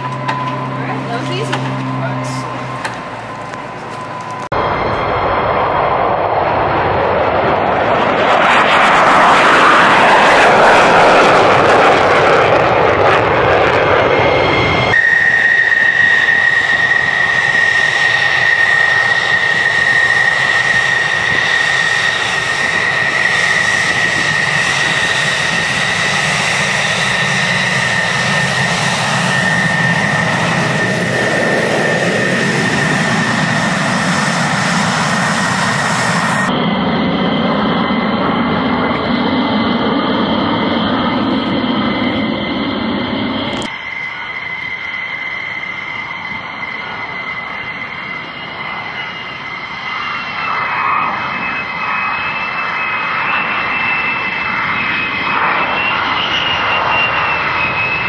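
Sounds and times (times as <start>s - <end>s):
jet climbing overhead: 0.0s - 58.0s
jet engine whine and rumble: 0.0s - 58.0s.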